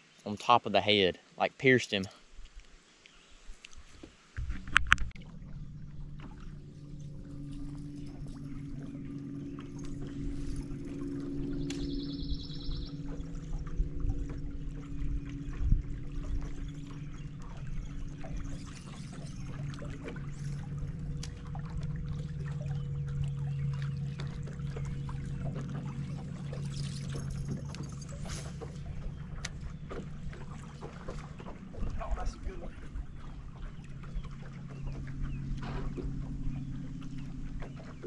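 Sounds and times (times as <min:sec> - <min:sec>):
water lapping against boat hull: 0:00.0 - 0:38.0
trolling motor hum: 0:03.8 - 0:38.0.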